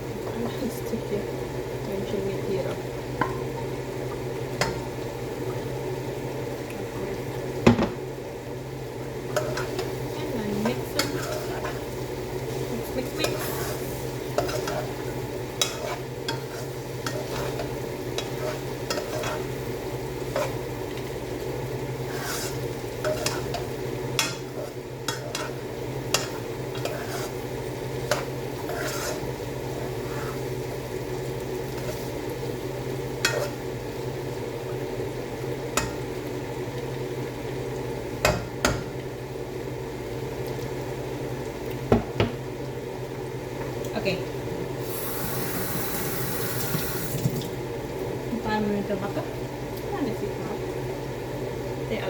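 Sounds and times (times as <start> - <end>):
food sizzling in a frying pan: 0.0 - 52.0.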